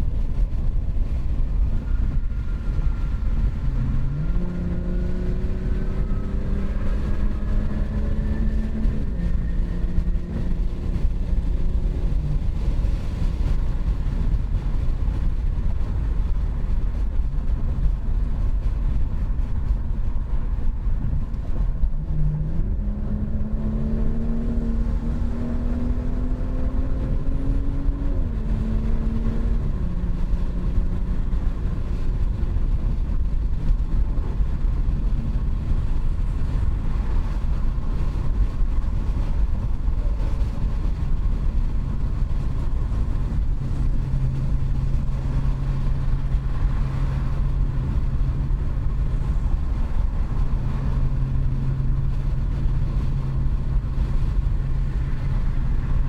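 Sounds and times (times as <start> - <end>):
car engine drone: 0.0 - 56.0
road rumble: 0.0 - 56.0.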